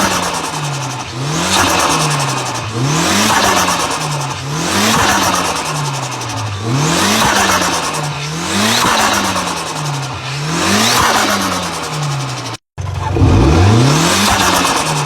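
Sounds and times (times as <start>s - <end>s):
turbocharged engine revving: 0.0s - 15.0s.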